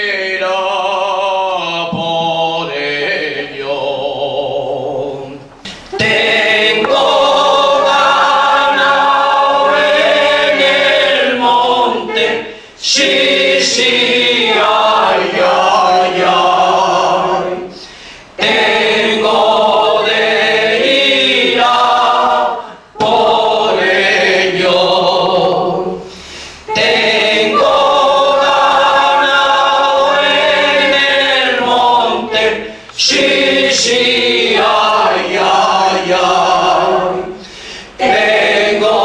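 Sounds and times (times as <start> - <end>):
mixed choir singing a cappella: 0.0 - 39.0.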